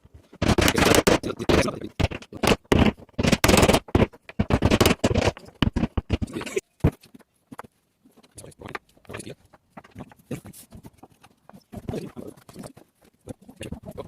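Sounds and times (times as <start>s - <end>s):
irregular knocks and scrapes: 0.0s - 14.0s.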